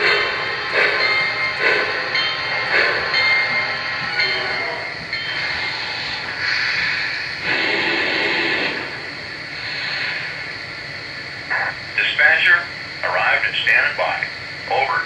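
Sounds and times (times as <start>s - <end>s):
model steam locomotive chuffs: 0.0s - 15.0s
steady steam hiss: 0.0s - 15.0s.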